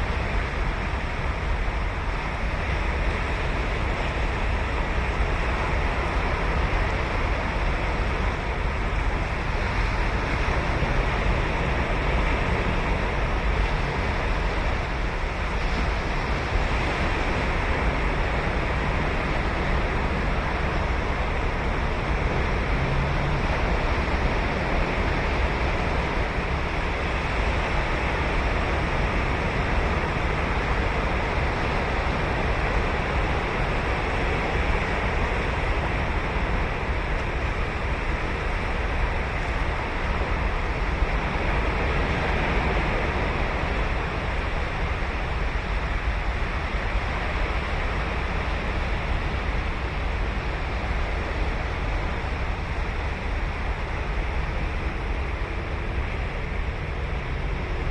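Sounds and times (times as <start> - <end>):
ocean waves breaking on beach: 0.0 - 57.9.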